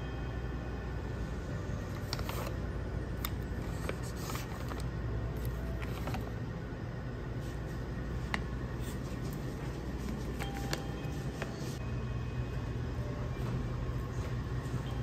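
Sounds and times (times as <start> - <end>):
room tone hum: 0.0 - 15.0.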